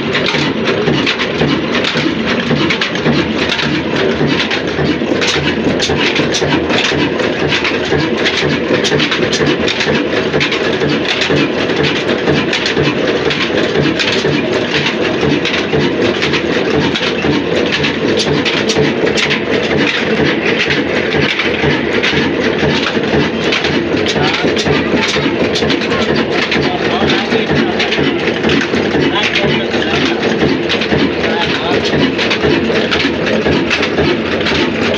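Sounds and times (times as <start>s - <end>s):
diesel engine clattering: 0.0s - 34.9s.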